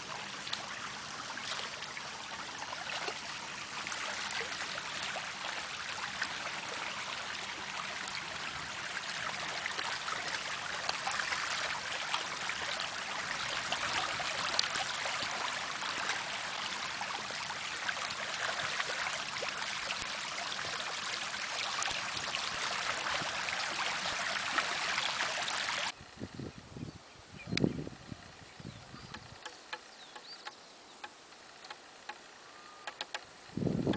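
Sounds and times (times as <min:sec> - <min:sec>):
stream trickling and splashing: 0:00.0 - 0:26.0, 0:27.6 - 0:33.9.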